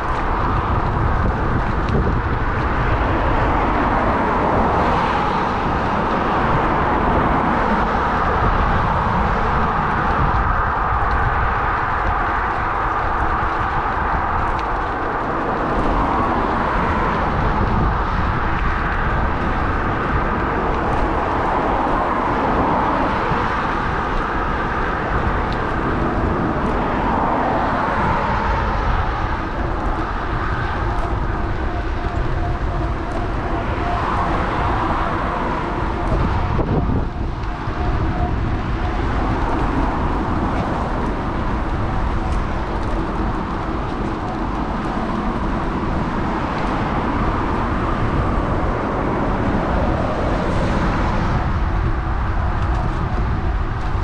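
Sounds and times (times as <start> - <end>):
road noise: 0.0 - 54.0
road traffic: 0.0 - 54.0
wind rush: 0.0 - 54.0.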